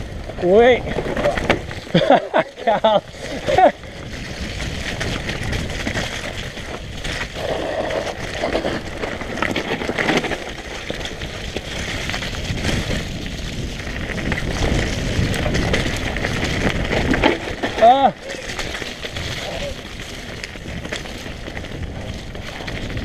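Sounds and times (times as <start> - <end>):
bike chain and frame rattle: 0.0 - 23.0
bike tyre noise on mud: 0.0 - 23.0.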